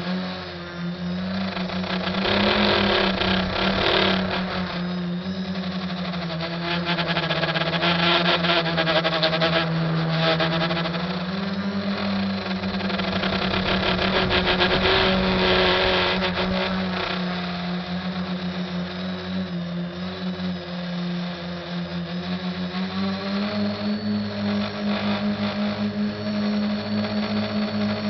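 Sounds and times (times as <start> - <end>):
drone propellers whirring: 0.0 - 28.0.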